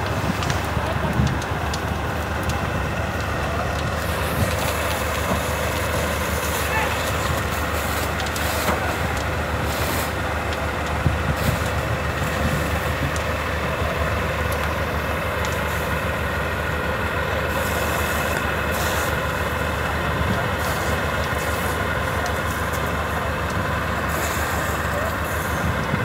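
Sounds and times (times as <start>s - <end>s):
heavy vehicle engine running: 0.0s - 26.0s
outdoor noise: 0.0s - 26.0s.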